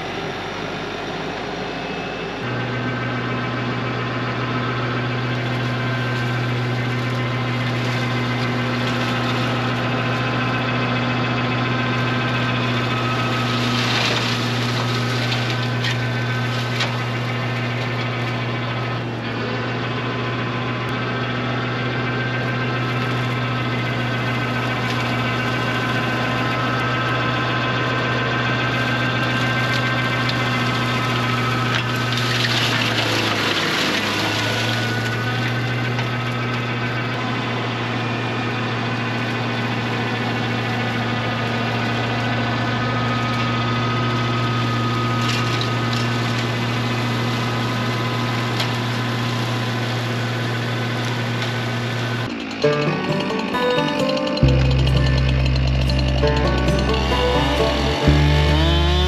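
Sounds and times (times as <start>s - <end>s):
diesel tractor engine running: 0.0s - 59.0s
flail mower chopping grass: 5.2s - 19.4s, 22.4s - 37.7s, 39.1s - 59.0s.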